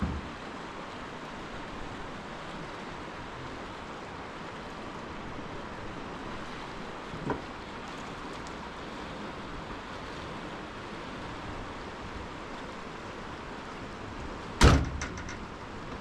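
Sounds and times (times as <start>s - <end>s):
river water rushing: 0.0s - 14.7s.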